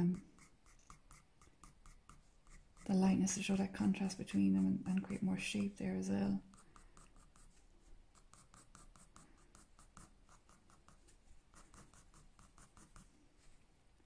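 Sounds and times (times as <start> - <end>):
pencil scratching on paper: 0.0 - 13.1.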